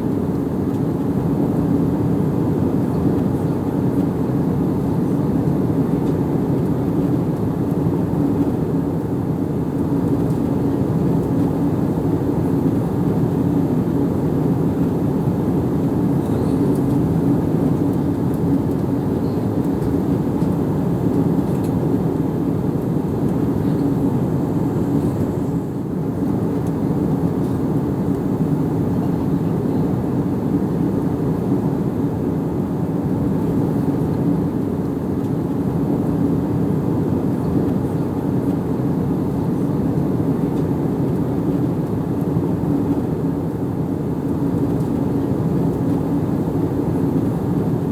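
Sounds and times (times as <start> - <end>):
airplane cabin engine drone: 0.0 - 47.9.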